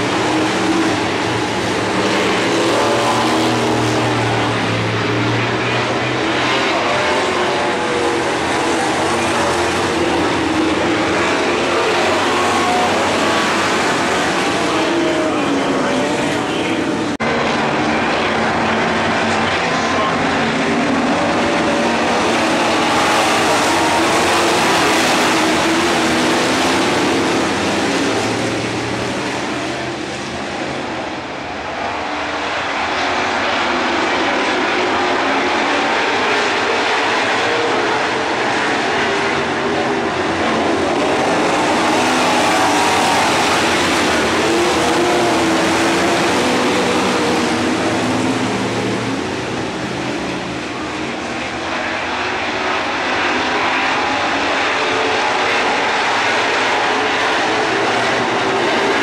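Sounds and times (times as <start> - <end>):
race car engines at full throttle: 0.0 - 59.0.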